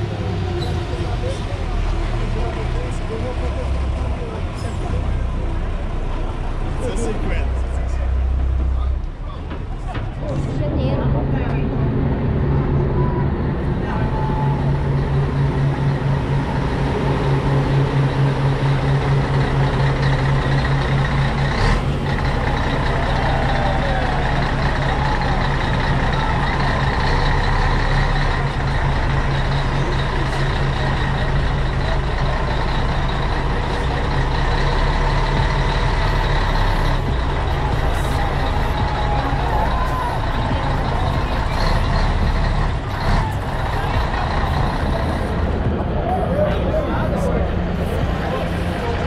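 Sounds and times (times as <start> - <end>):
diesel bus engine pulling away: 0.0 - 49.0.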